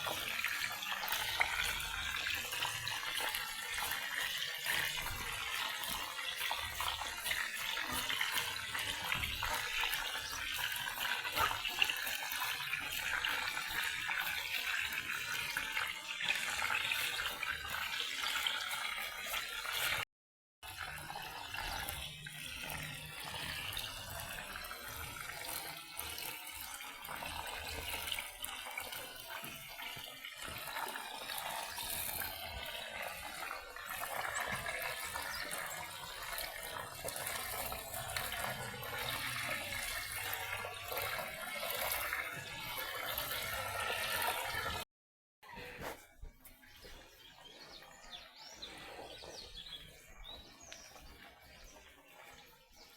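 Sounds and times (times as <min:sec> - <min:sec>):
water running from a tap: 0:00.0 - 0:20.0, 0:20.6 - 0:44.8.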